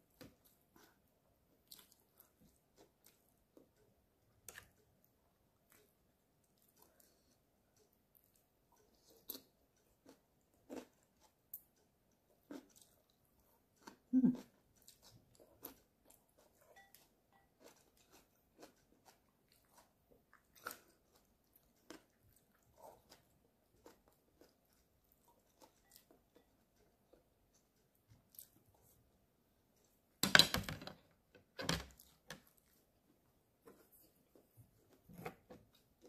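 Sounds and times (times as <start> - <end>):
chewing and crunching food: 0.0 - 30.2, 31.8 - 36.0.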